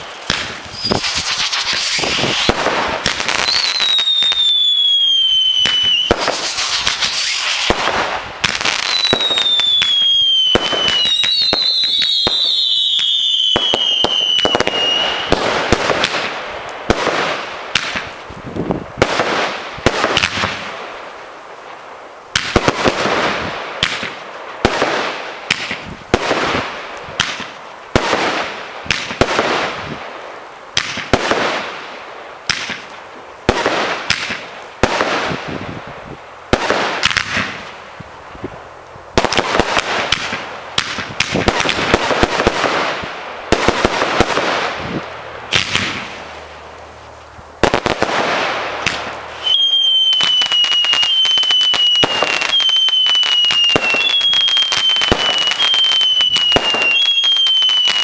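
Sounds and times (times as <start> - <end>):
fireworks banging and crackling: 0.0 - 58.0.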